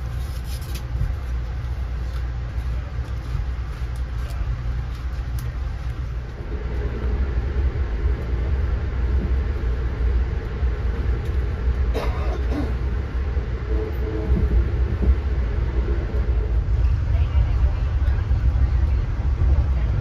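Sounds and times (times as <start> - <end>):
train wheels rumbling on rails: 0.0 - 20.0
faint hum: 0.1 - 20.0.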